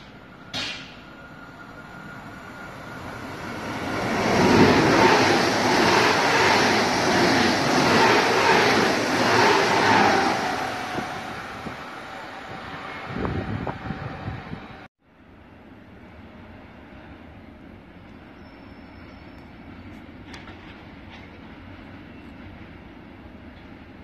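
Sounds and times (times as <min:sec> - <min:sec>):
high-speed train passing: 0:00.0 - 0:24.0.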